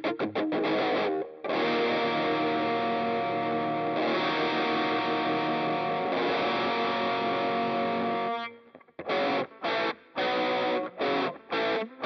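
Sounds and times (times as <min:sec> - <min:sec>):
distorted electric guitar notes: 0:00.0 - 0:12.0.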